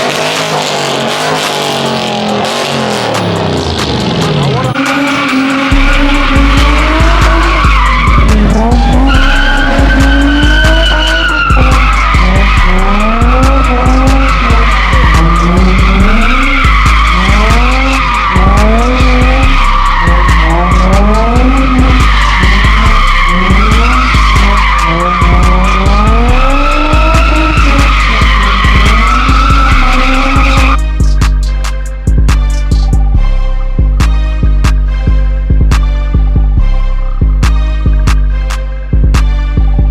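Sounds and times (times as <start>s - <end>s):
car tyres squealing: 0.0s - 33.1s
car engine revving: 0.0s - 39.9s
hip-hop beat with heavy bass: 0.0s - 39.9s.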